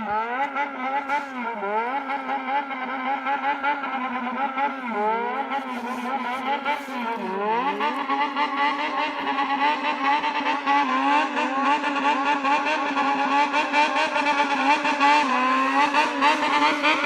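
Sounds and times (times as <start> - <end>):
motorcycle engine revving rhythmically: 0.0 - 17.0.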